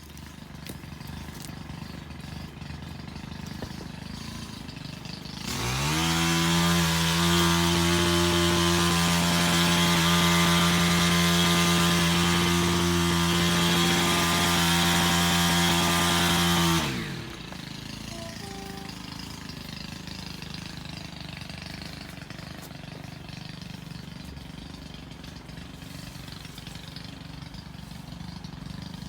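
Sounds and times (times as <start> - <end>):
power tool engine revving: 0.0 - 29.0.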